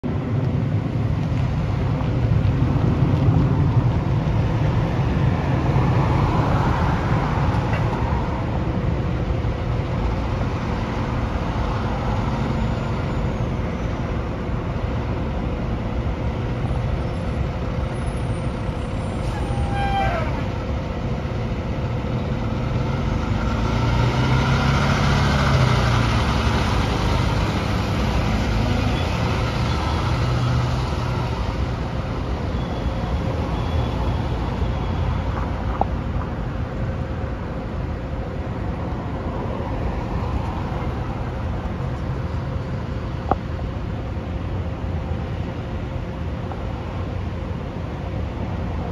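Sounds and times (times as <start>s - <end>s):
heavy diesel truck engine: 0.0s - 48.9s.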